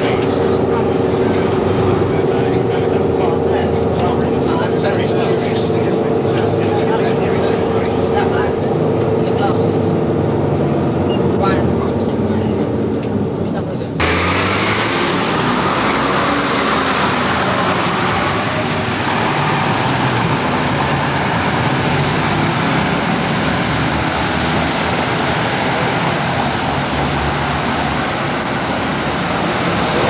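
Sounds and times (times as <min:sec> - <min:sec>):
diesel bus engine running: 0:00.0 - 0:30.0
road and traffic noise: 0:00.0 - 0:30.0.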